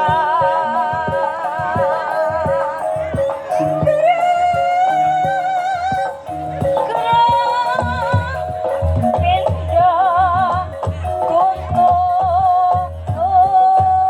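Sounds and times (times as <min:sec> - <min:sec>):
person singing with vibrato: 0:00.0 - 0:14.0
tuned percussion tones: 0:00.0 - 0:14.0.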